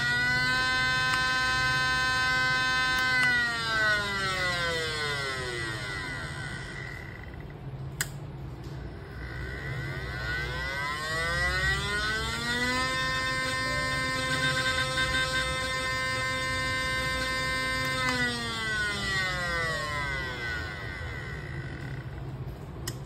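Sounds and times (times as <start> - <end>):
small motor buzzing whine: 0.0 - 7.8, 8.6 - 22.5.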